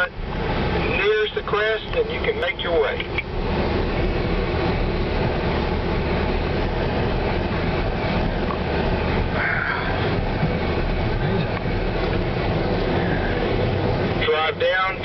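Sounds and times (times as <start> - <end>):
car engine drone: 0.0 - 15.0.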